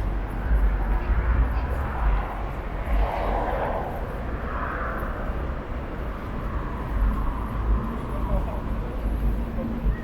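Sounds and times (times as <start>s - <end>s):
traffic rumble: 0.0s - 10.0s
vehicles passing: 0.0s - 10.0s.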